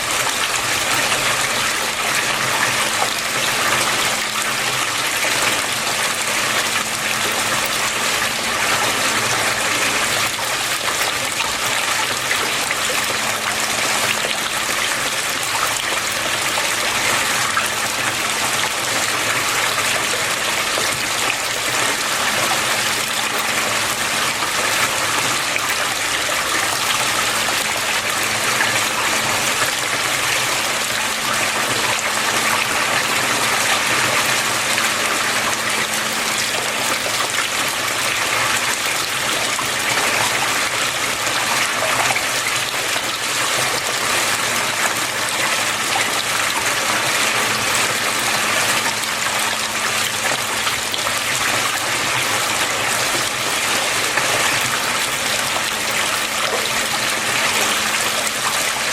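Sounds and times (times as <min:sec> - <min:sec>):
water flowing and splashing: 0:00.0 - 0:58.9.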